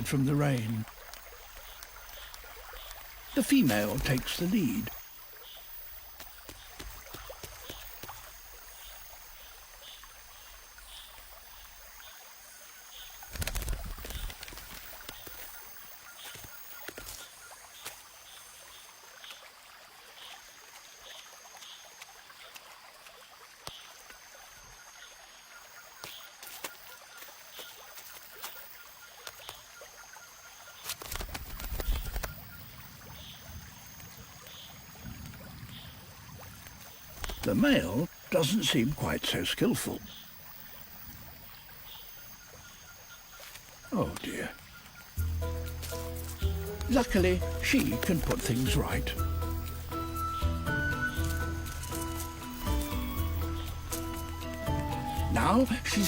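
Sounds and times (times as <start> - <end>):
wingbeats flutter: 0.0 - 56.0.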